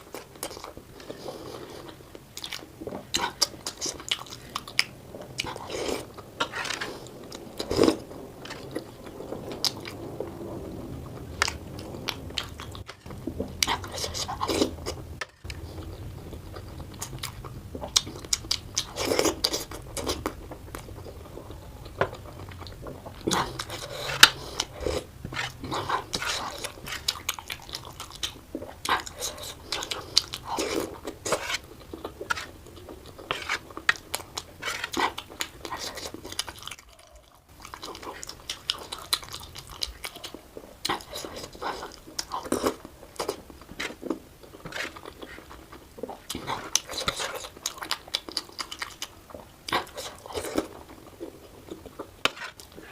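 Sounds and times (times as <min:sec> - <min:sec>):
person chewing with wet smacks: 0:00.0 - 0:10.0, 0:11.1 - 0:52.9.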